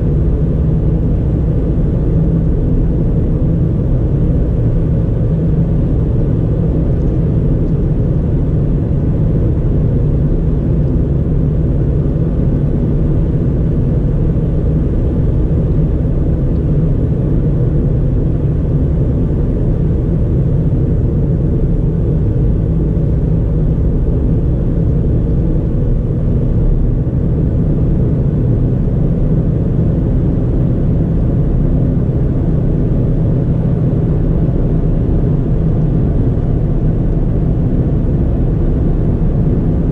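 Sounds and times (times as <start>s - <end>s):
car engine and tyres on road: 0.0s - 39.9s.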